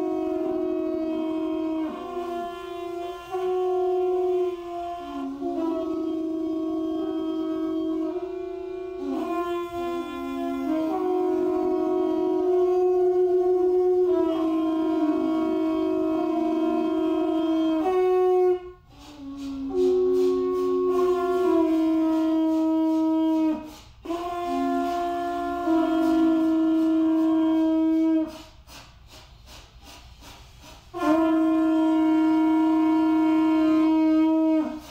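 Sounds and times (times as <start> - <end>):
conch shell trumpets: 0.0 - 34.9.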